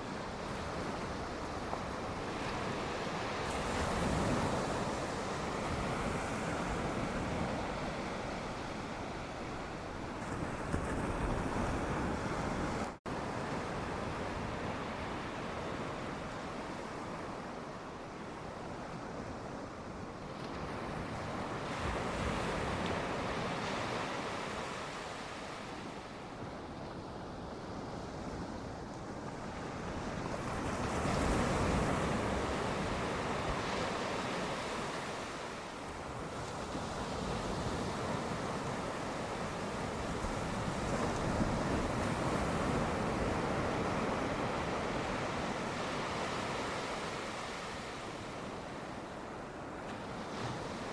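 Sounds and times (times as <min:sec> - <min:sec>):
ocean surf washing ashore: 0:00.0 - 0:50.9.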